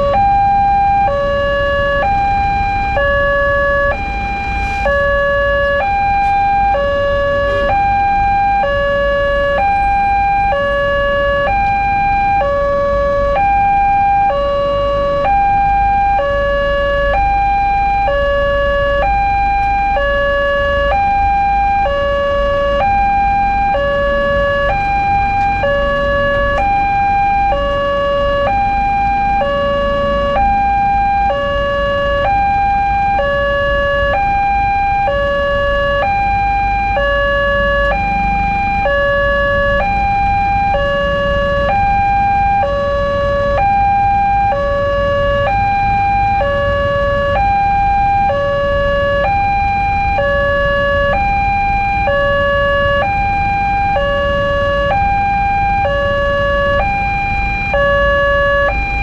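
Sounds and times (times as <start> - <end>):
low traffic rumble: 0.0 - 59.0
two-tone crossing alarm: 0.0 - 59.0.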